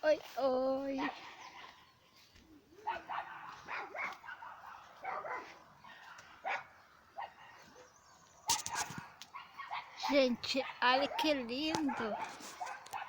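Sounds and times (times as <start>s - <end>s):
dog barking: 1.0s - 1.9s, 2.8s - 13.0s.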